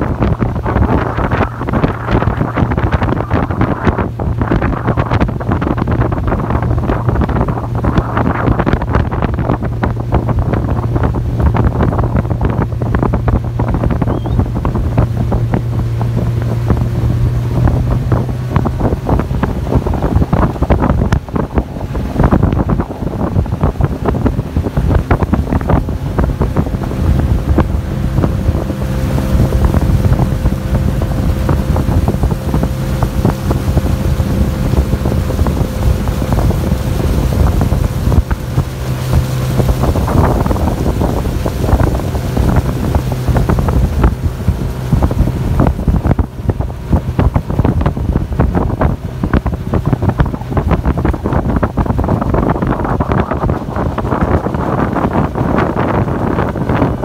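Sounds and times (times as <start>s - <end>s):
outboard motor running: 0.0s - 57.0s
water rushing along hull: 0.0s - 57.0s
wind buffeting microphone: 0.0s - 57.0s.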